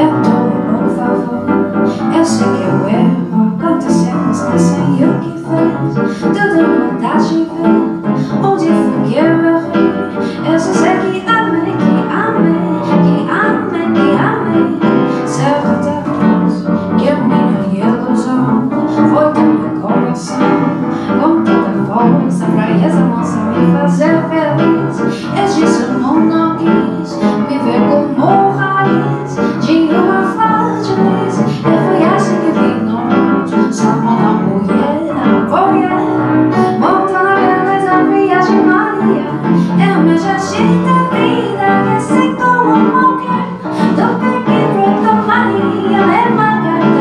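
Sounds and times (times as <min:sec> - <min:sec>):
piano: 0:00.0 - 0:47.0
woman singing: 0:00.0 - 0:47.0.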